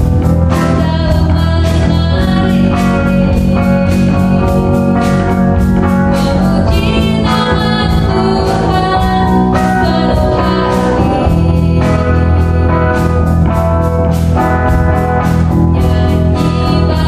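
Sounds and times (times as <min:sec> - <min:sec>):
bass: 0:00.0 - 0:17.0
electric guitars: 0:00.0 - 0:17.0
keyboard: 0:00.0 - 0:17.0
woman singing into microphone: 0:00.2 - 0:17.0.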